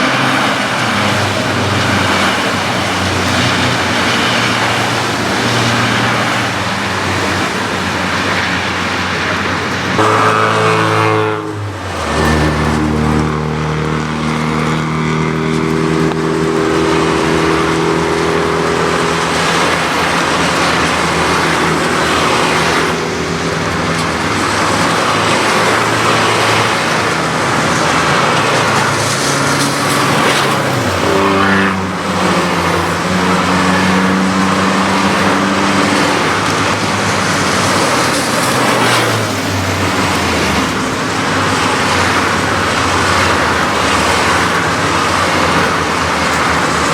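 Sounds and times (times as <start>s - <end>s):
race car engine running: 0.0s - 46.9s
tyres hissing on wet track: 0.0s - 46.9s.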